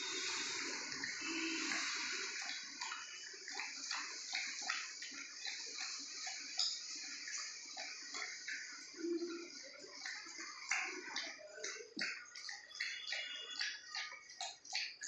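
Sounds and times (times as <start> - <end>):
dog slurping and chewing: 0.0 - 15.0.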